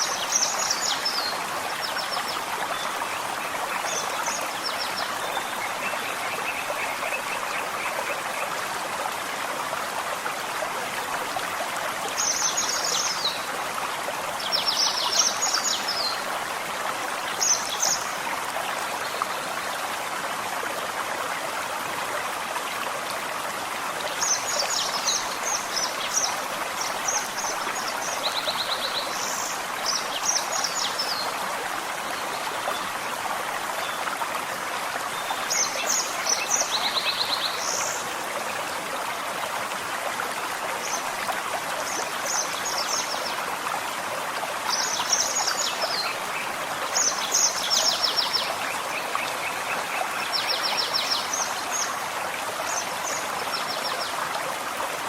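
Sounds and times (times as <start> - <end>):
forest stream running: 0.0 - 55.0.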